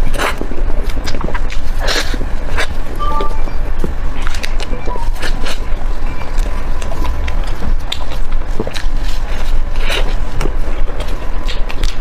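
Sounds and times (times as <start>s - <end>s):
person chewing crunchy food: 0.0s - 12.0s
steady low rumble: 0.0s - 12.0s.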